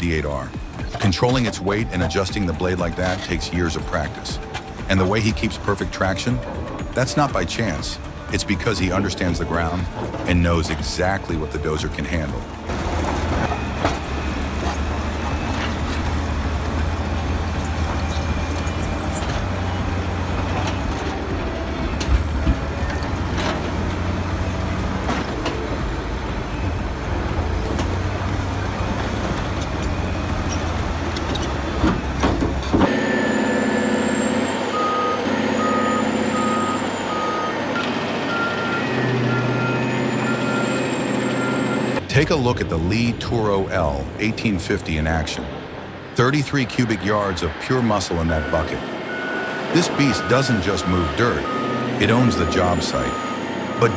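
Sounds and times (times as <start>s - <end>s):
bulldozer diesel engine under load: 0.0s - 53.9s
heavy machine running: 0.6s - 53.9s
reversing alarm beeping: 0.8s - 42.3s, 47.0s - 53.9s.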